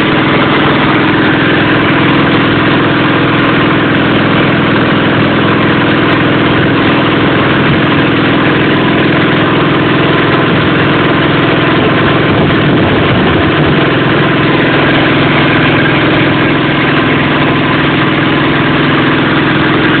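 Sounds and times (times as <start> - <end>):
small engine droning: 0.0 - 20.0.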